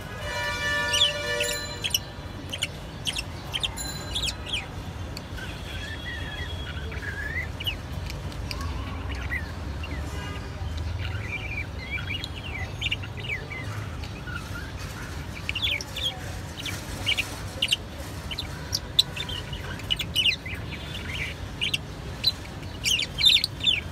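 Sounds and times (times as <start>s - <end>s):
budgerigars chirping: 0.2s - 10.2s, 10.8s - 23.9s.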